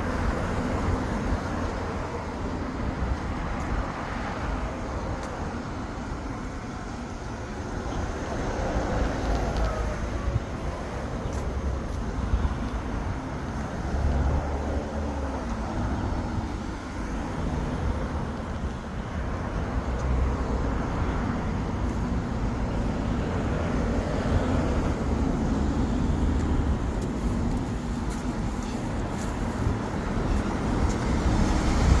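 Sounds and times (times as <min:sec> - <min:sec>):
car road noise: 0:00.0 - 0:32.0.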